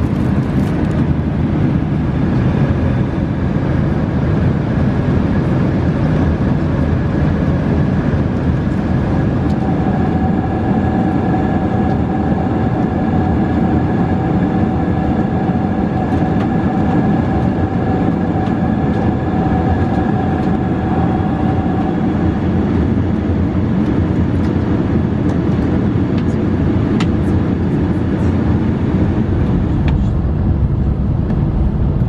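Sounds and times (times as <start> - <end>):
aircraft engine and airflow rumble: 0.0 - 32.0
faint whine: 0.0 - 32.0.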